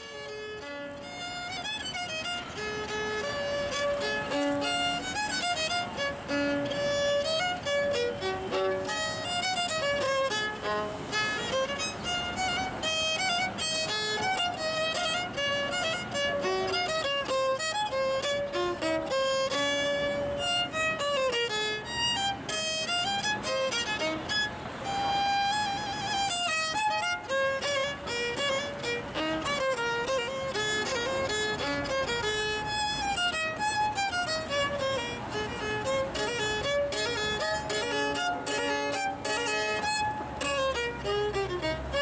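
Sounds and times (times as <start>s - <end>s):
solo violin melody: 0.0s - 42.0s.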